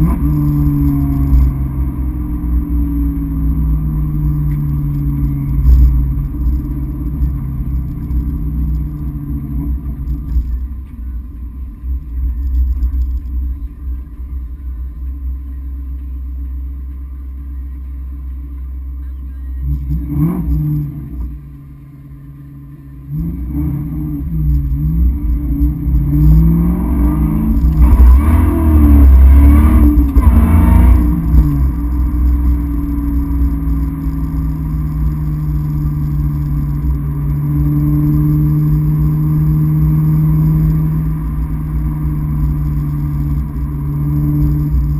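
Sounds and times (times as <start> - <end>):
car engine revving and accelerating: 0.0 - 10.9, 19.6 - 44.9.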